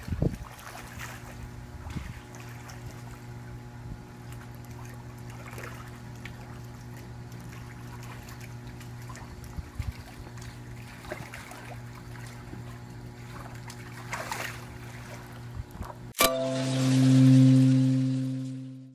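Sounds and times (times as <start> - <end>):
pool water splashing: 0.0 - 15.6, 16.2 - 18.8
steady low hum: 0.0 - 18.9.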